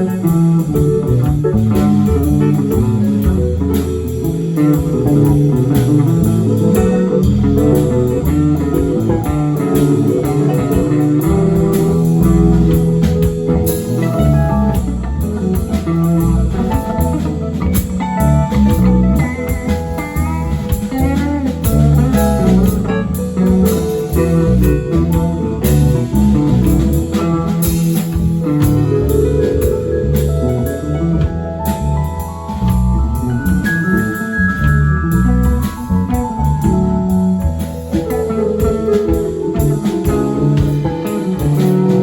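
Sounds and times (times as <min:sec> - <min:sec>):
bass guitar: 0:00.0 - 0:42.0
drum kit: 0:00.0 - 0:42.0
electric guitar lead: 0:00.0 - 0:42.0.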